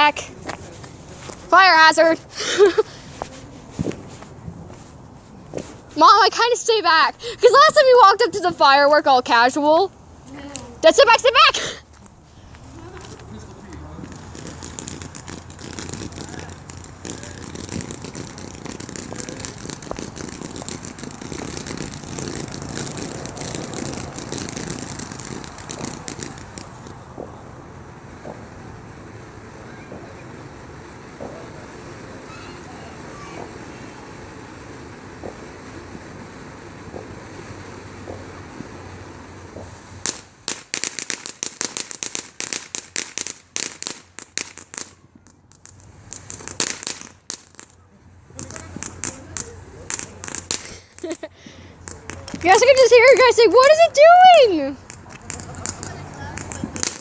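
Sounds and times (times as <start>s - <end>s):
wind noise on microphone: 0.0s - 11.5s, 12.1s - 40.5s, 48.1s - 57.0s
firework crackling spray: 0.0s - 57.0s.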